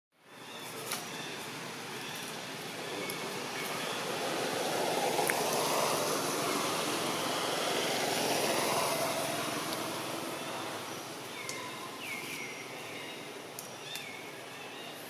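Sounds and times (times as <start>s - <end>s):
passing vehicle engine and road noise: 1.2s - 13.6s.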